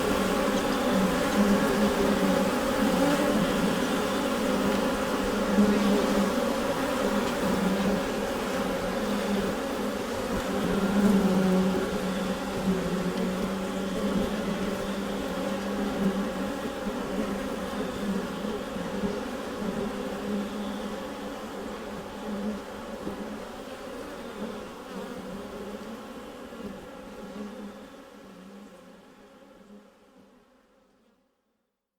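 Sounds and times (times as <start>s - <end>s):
honeybees buzzing in hive: 0.0s - 31.0s.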